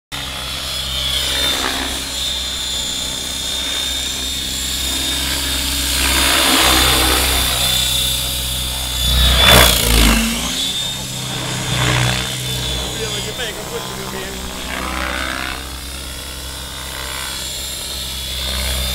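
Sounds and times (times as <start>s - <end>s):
model helicopter rotor whine: 0.2s - 18.9s.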